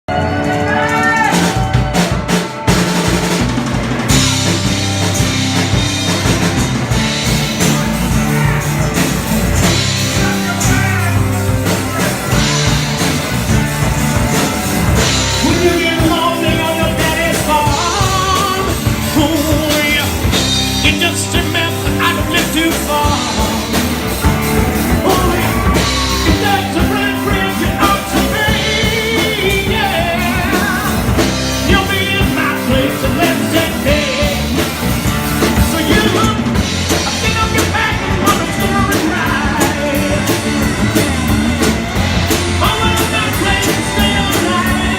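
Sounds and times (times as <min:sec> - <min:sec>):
drum kit beat: 0:00.1 - 0:44.9
rock band playing live: 0:00.1 - 0:44.9
lead singer singing: 0:04.0 - 0:44.9.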